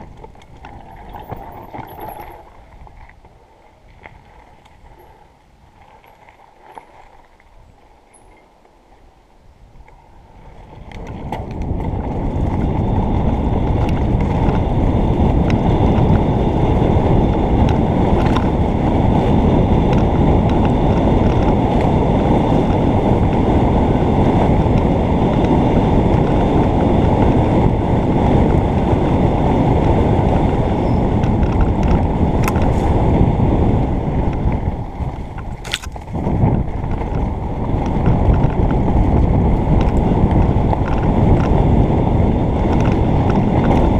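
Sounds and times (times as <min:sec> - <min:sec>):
wind rushing over microphone: 0:00.0 - 0:08.0, 0:09.0 - 0:43.9
bike rumbling over dirt trail: 0:00.0 - 0:09.0, 0:10.0 - 0:43.9.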